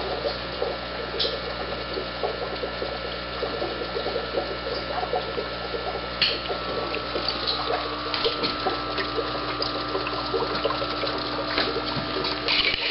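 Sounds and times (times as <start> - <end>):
aquarium filter humming: 0.0 - 12.9
water trickling and bubbling: 0.0 - 12.9.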